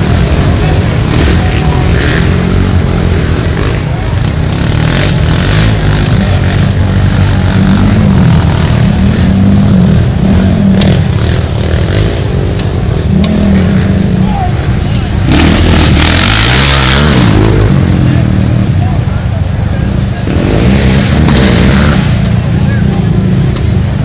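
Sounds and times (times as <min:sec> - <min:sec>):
atv engines revving: 0:00.0 - 0:24.0.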